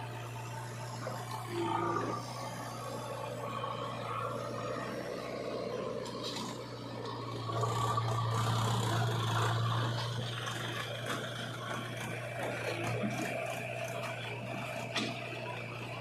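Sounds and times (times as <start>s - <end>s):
diesel engines droning: 0.0s - 16.0s.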